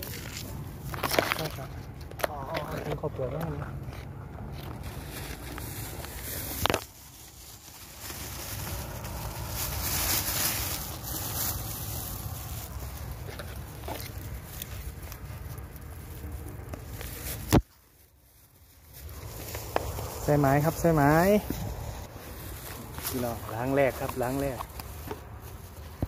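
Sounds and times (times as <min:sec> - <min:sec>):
dry grass rustling and crackling: 0:00.0 - 0:26.0.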